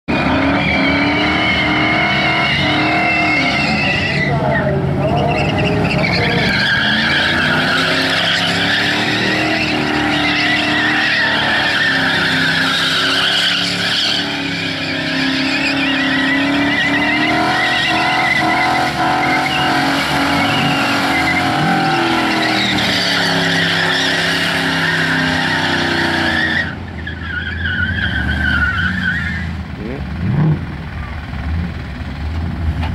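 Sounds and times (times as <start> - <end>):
tyres squealing: 0.1 - 29.5
car engine revving: 0.1 - 32.9.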